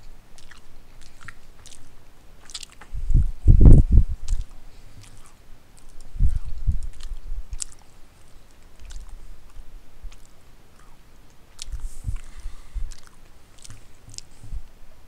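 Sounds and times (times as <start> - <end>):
person chewing food: 0.0 - 3.4, 4.2 - 14.7.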